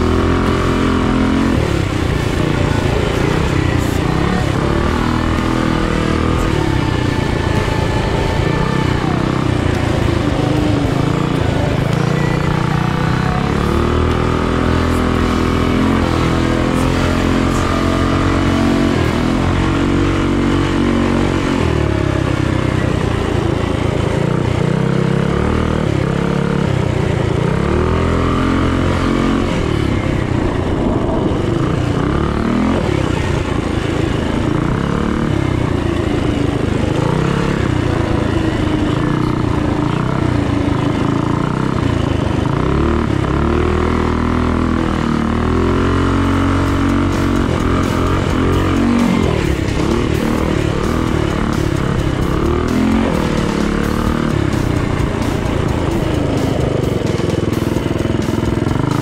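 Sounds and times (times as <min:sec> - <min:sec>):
small engine revving: 0:00.0 - 0:59.0.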